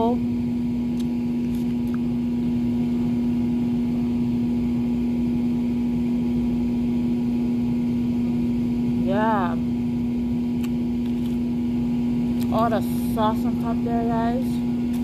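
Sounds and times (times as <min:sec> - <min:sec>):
low mechanical droning hum: 0:00.0 - 0:15.0.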